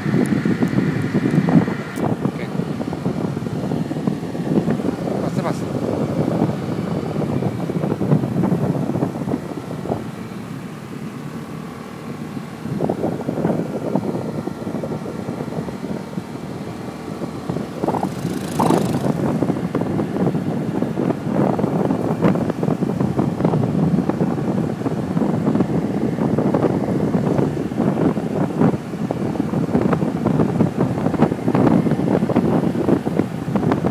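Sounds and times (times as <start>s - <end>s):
motorbike engine running: 0.0s - 33.9s
wind buffeting microphone: 0.0s - 33.9s.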